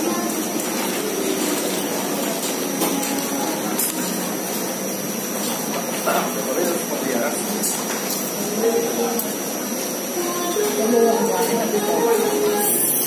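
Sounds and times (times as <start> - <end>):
fan rushing with high whine: 0.0 - 13.0.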